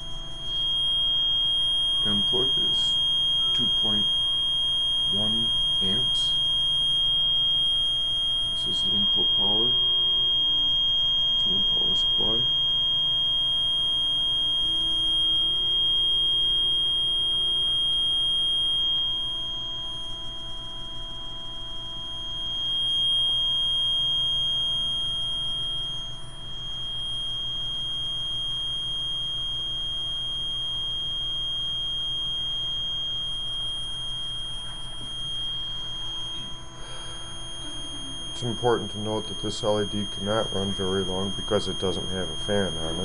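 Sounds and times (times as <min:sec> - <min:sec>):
high-pitched transformer whine: 0:00.0 - 0:43.0.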